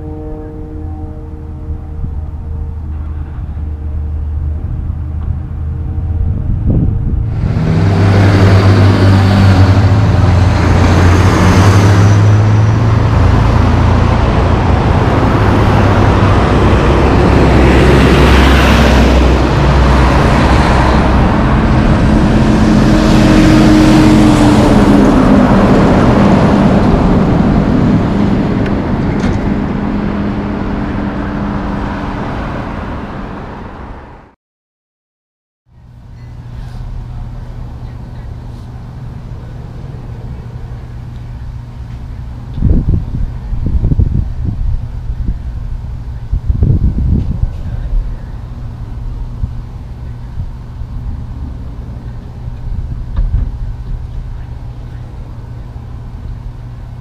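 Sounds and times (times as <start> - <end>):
diesel truck engine droning: 0.0 - 34.4, 35.7 - 57.0
trucks and cars passing: 0.0 - 34.4, 35.7 - 57.0.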